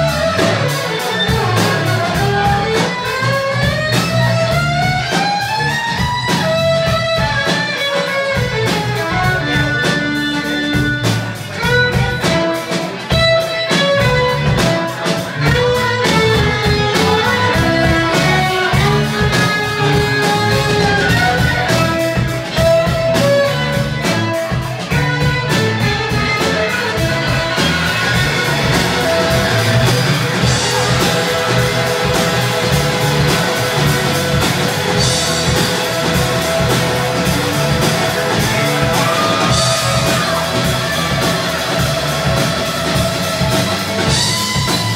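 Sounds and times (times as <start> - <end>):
bass guitar: 0.0 - 44.9
drum kit: 0.0 - 44.9
fiddle melody: 0.0 - 44.9.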